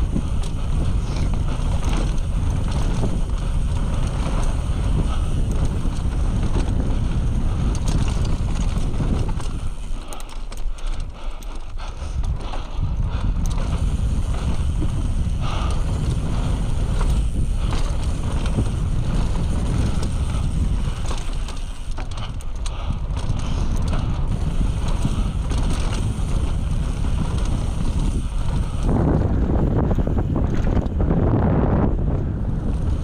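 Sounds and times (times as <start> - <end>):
tyres rolling on dirt: 0.0 - 31.1
bike clicks and rattles: 0.0 - 33.0
wind rumbling on microphone: 0.0 - 33.0.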